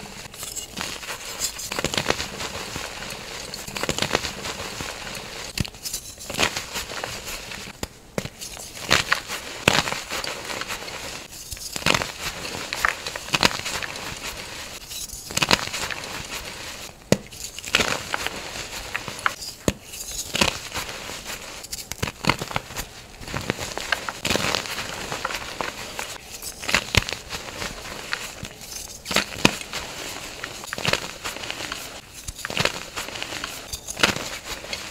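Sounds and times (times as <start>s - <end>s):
chalk crunching and crackling: 0.0s - 34.9s.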